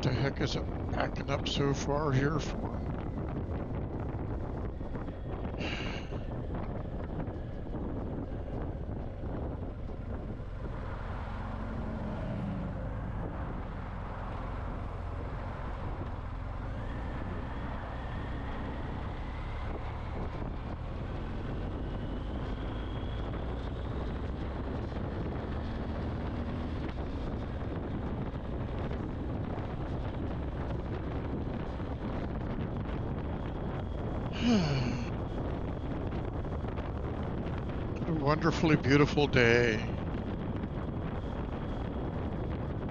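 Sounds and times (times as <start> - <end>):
wind rush: 0.0 - 42.9.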